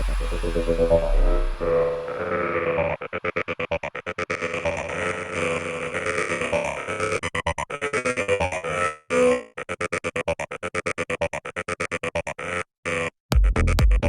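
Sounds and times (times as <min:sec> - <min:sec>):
stuttering minimal techno music: 0:00.0 - 0:14.0.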